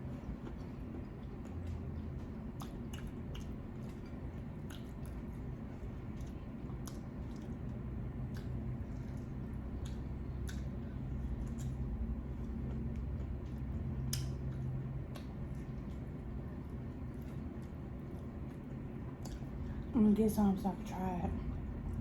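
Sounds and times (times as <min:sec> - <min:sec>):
wet squishing of food by hand: 0:00.0 - 0:19.9
low steady hum: 0:00.0 - 0:22.0.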